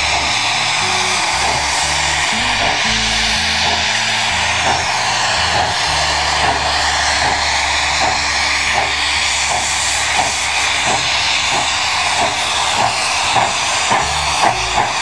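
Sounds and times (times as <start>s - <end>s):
steam locomotive hissing steam: 0.0s - 15.0s.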